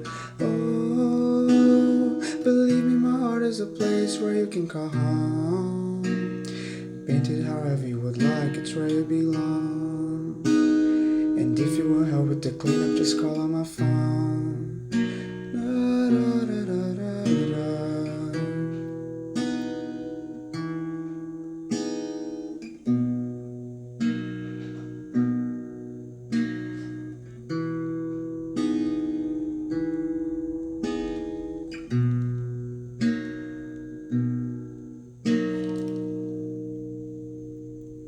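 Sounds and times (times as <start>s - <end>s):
acoustic guitar strummed chords: 0.0s - 38.0s.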